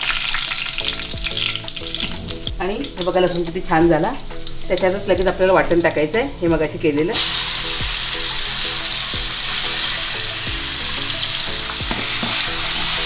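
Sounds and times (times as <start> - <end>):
paste sizzling in hot oil: 0.0 - 6.4, 7.0 - 13.0.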